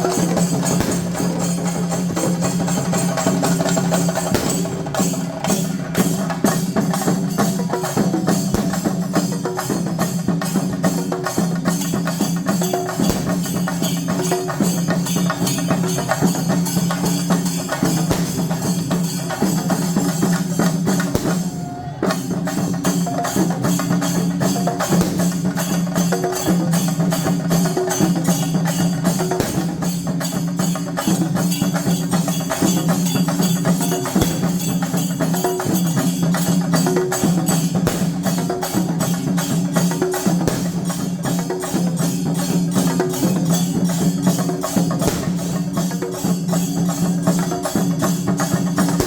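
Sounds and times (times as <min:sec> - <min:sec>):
fast even drumming: 0:00.0 - 0:49.0
jangling percussion: 0:00.0 - 0:49.0.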